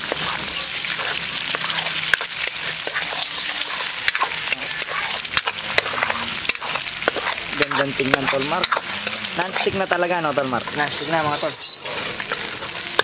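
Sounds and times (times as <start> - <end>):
eggs sizzling in oil: 0.0 - 13.0
metal ladle scraping a pan: 0.0 - 13.0.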